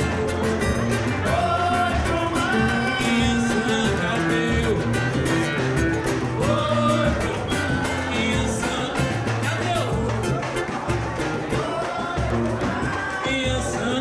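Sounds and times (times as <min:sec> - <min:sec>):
bass drum: 0:00.0 - 0:14.0
plucked strings: 0:00.0 - 0:14.0
samba band playing: 0:00.0 - 0:14.0.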